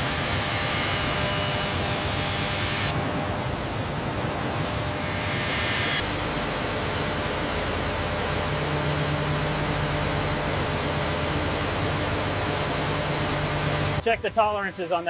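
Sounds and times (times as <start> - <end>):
low droning hum: 0.0 - 14.4
factory machinery hiss and hum: 0.0 - 15.0.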